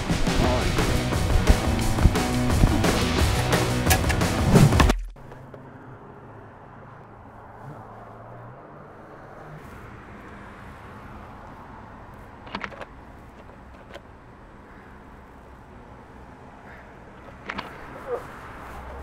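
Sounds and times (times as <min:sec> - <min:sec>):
distant traffic: 0:00.0 - 0:19.0.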